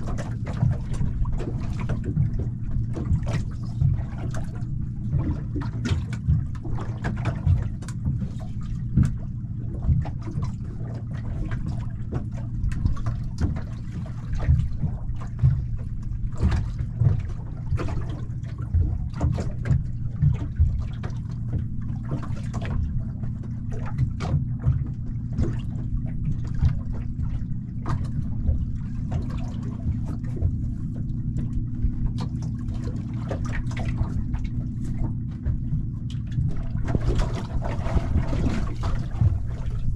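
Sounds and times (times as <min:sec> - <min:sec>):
steady low hum: 0:00.0 - 0:39.9
water lapping against boat hull: 0:00.0 - 0:39.9.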